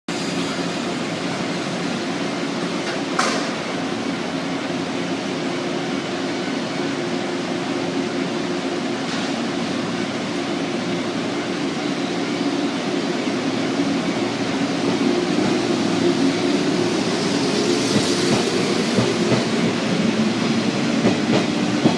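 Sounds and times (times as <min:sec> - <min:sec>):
electric train hum: 0:00.1 - 0:21.9.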